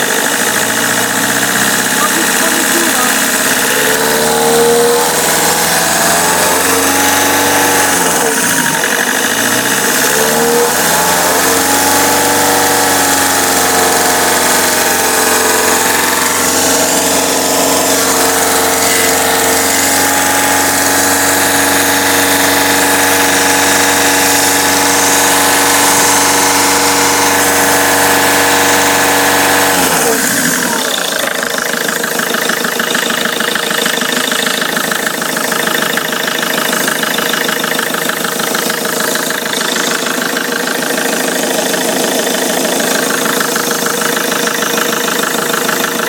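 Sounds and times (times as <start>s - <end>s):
diesel engine idling: 0.0s - 46.0s
steady tones: 0.1s - 45.6s.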